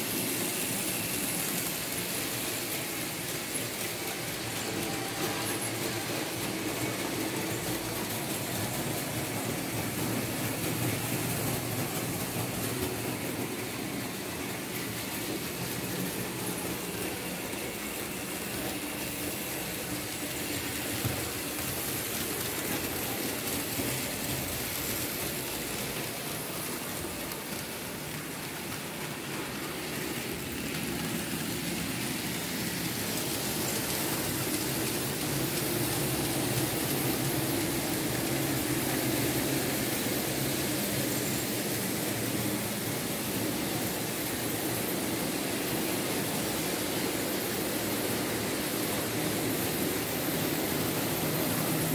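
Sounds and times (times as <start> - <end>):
model train motor humming: 0.0 - 51.9
wheels rolling on rails: 0.0 - 51.9.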